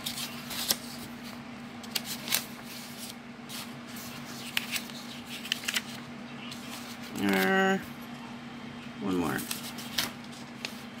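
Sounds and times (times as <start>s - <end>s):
paper sheets rustling: 0.0s - 7.6s, 9.2s - 11.0s.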